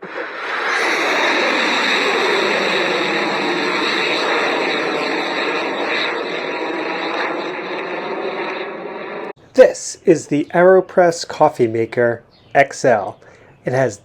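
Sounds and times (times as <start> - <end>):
rocket engines roaring: 0.0 - 11.6.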